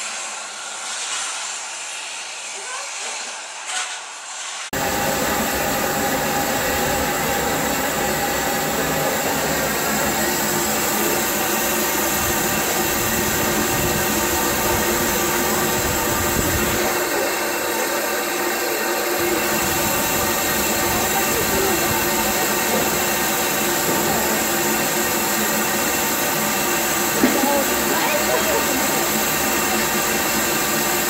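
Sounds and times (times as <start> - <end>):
steam locomotive hissing: 0.0 - 31.0.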